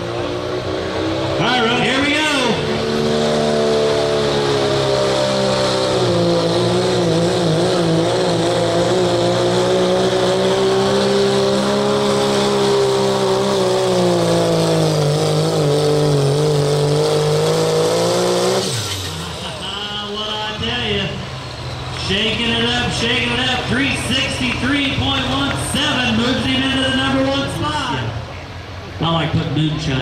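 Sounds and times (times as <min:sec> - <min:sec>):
diesel engine at full throttle: 0:00.0 - 0:30.0.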